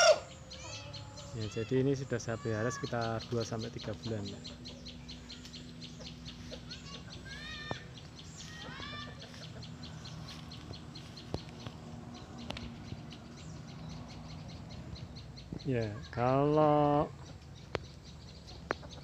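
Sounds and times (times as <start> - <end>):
low steady hum: 0.0 - 19.0
roosters clucking: 0.0 - 19.0.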